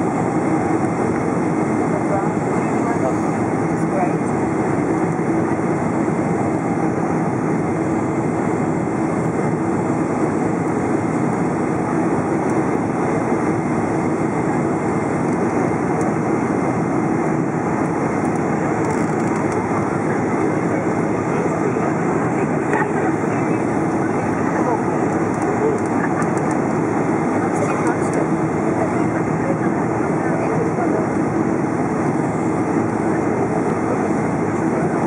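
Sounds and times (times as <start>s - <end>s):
airplane cabin roar: 0.0s - 35.0s.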